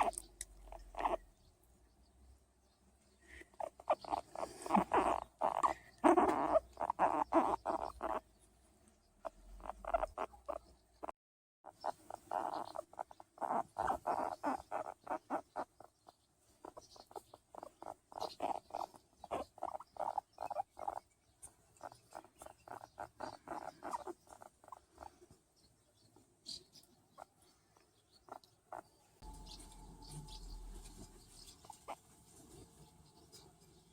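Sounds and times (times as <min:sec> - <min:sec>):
guinea pig soft calls: 0:00.0 - 0:01.5, 0:03.2 - 0:08.5, 0:09.1 - 0:33.9.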